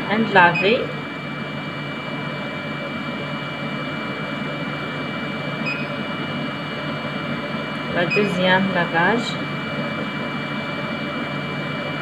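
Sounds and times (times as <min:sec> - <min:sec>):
pump whirring: 0:00.0 - 0:12.0.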